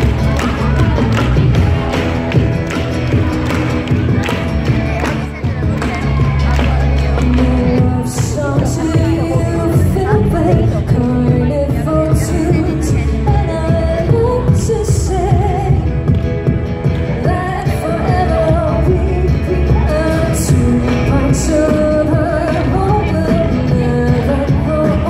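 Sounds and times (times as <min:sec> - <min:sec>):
acoustic guitar: 0:00.0 - 0:25.0.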